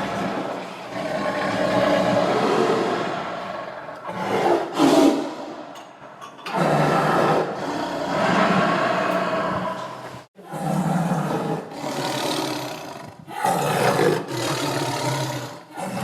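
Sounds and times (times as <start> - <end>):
tiger growling and roaring: 0.0 - 5.7, 6.4 - 16.0.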